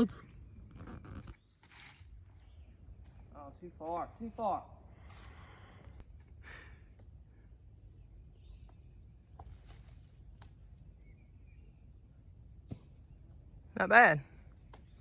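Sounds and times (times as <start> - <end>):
faint bird chirps: 0.0 - 13.3
high insect drone: 0.0 - 15.0.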